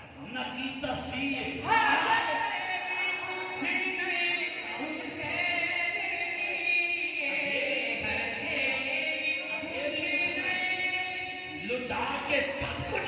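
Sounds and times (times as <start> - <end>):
man singing through loudspeaker: 0.0 - 13.0.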